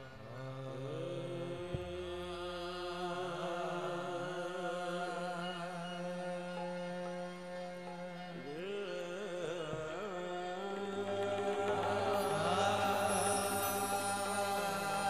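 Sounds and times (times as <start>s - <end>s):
person singing long wavering notes: 0.0s - 15.0s.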